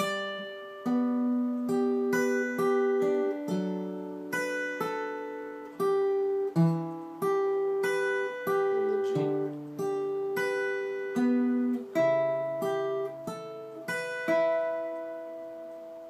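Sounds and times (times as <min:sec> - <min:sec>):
acoustic guitar picked notes: 0:00.0 - 0:16.0.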